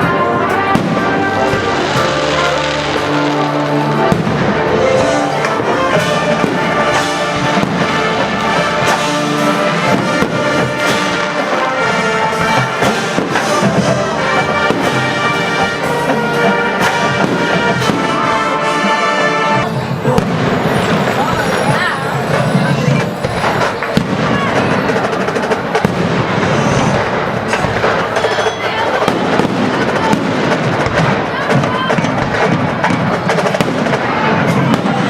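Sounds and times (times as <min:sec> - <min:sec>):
brass music: 0:00.0 - 0:35.0
fireworks bangs: 0:00.0 - 0:35.0.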